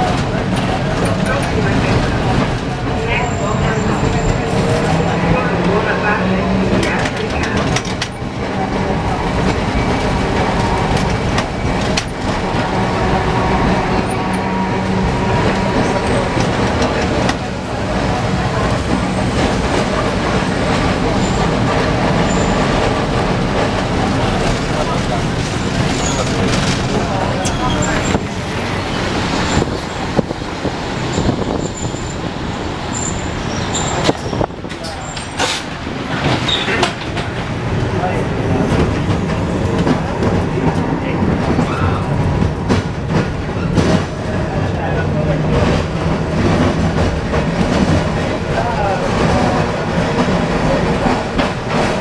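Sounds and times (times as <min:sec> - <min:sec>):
tram hum and rattle: 0:00.0 - 0:52.0.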